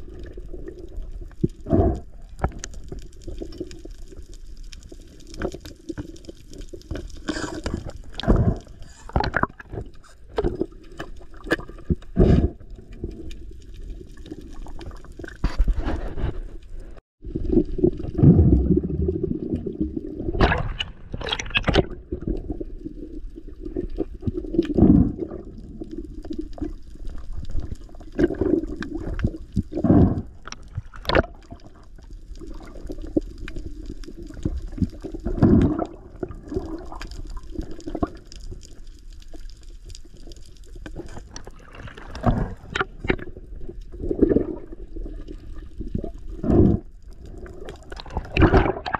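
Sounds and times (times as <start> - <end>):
underwater sloshing and bubbling: 0.0 - 48.9.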